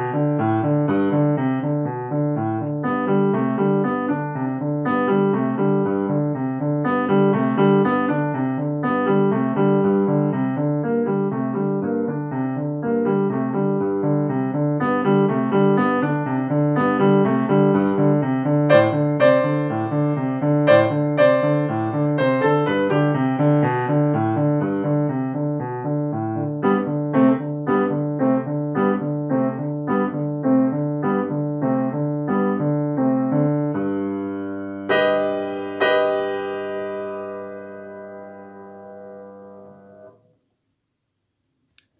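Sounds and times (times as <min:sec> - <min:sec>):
upright piano playing: 0:00.0 - 0:40.2.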